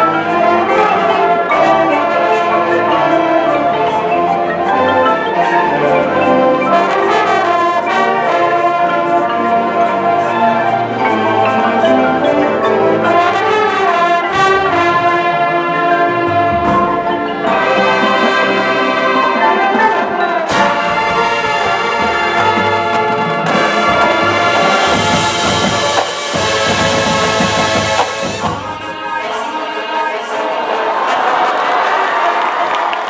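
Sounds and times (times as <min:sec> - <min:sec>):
drumline: 0:00.0 - 0:29.6
brass section playing chords: 0:00.0 - 0:29.9.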